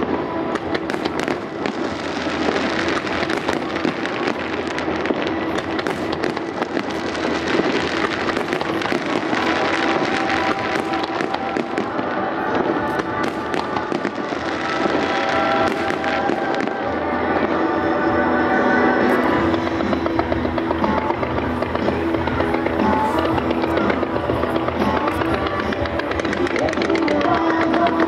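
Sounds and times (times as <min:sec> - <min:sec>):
fireworks bursting and crackling: 0:00.0 - 0:28.0
show music: 0:00.0 - 0:28.0.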